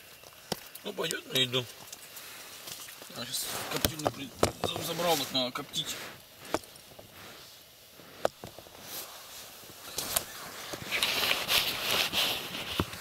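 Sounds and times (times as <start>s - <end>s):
padded clothing rustling: 2.3s - 13.0s.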